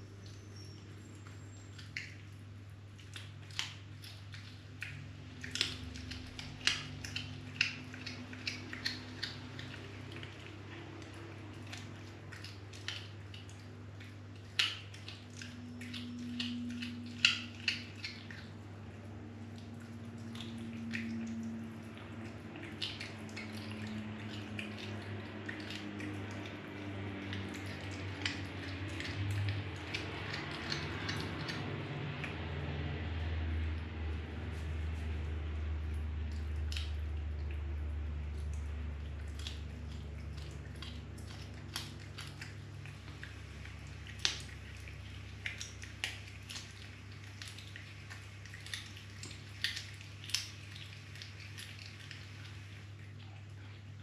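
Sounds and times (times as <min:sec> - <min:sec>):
cat chewing with wet crunches: 0:00.0 - 0:54.0
steady low hum: 0:00.0 - 0:54.0.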